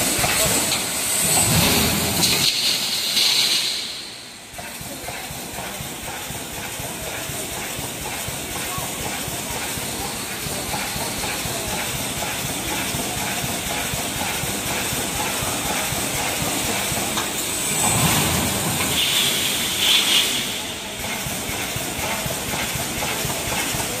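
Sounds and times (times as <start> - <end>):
welding machine hissing and clattering: 0.0 - 24.0.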